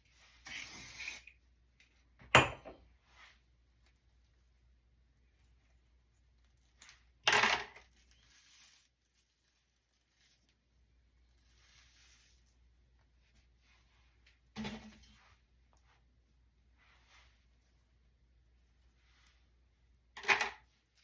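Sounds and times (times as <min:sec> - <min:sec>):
rollers rustling in hair: 0:03.0 - 0:21.0.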